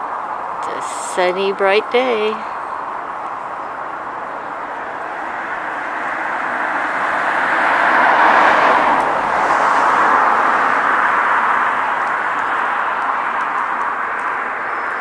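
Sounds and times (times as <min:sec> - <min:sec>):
passing vehicle traffic: 0:00.0 - 0:15.0.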